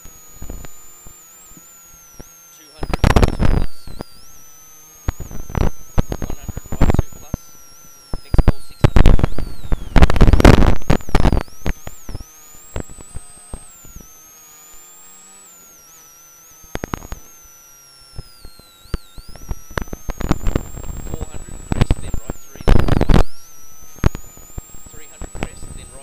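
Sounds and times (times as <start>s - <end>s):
intercom crackle and static: 0.0s - 26.0s
low hiss: 0.0s - 26.0s
thin electrical whine: 0.0s - 26.0s
scattered clicks: 0.1s - 26.0s.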